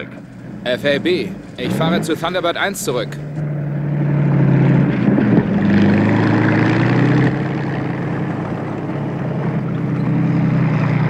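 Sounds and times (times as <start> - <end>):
tracked vehicle engine running: 0.0 - 11.0.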